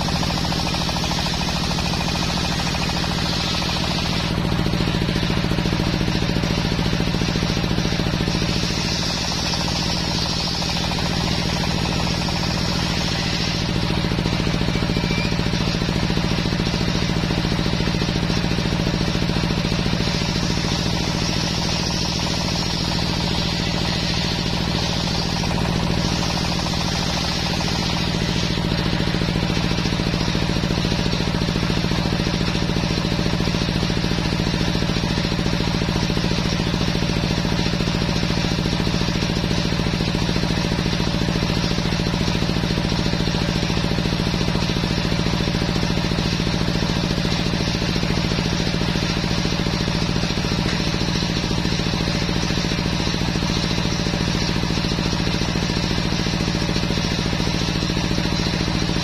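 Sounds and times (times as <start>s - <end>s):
saw blade cutting wood: 0.0s - 39.9s, 40.5s - 57.3s
table saw running: 0.0s - 59.0s.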